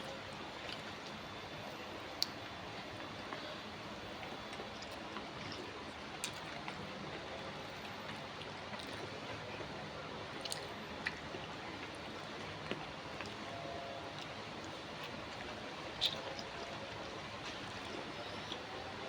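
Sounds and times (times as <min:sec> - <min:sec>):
person chewing food: 0:00.1 - 0:01.2, 0:04.2 - 0:13.5, 0:14.1 - 0:19.0.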